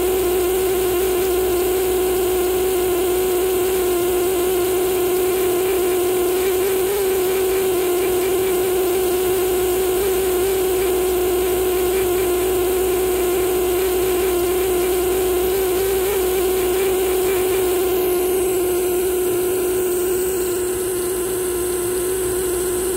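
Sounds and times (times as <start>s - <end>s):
air scribe buzzing: 0.0s - 22.9s.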